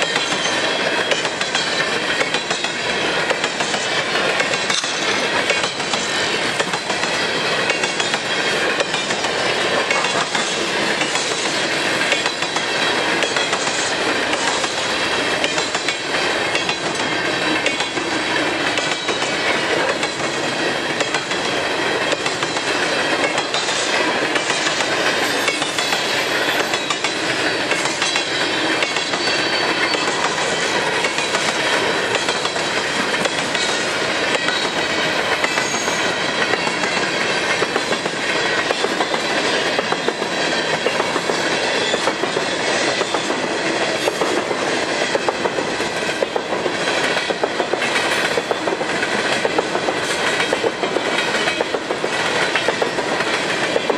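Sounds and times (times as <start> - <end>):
freight train rolling past: 0.0 - 53.9
wheels clicking over rail joints: 0.0 - 53.9.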